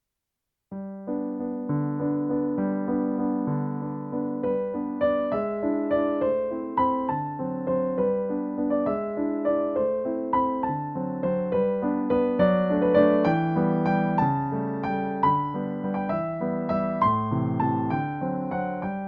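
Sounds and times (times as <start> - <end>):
slow gentle piano piece: 0.7 - 19.0.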